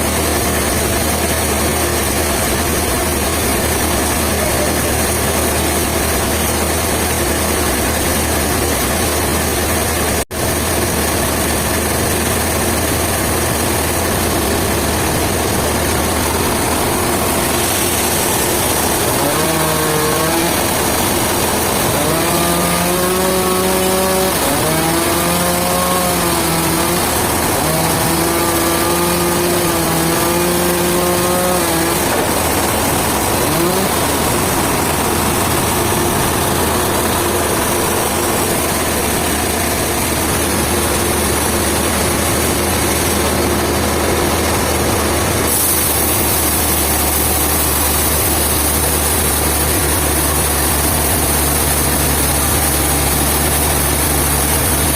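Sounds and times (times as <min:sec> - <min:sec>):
engine revving: 0:00.0 - 0:54.9.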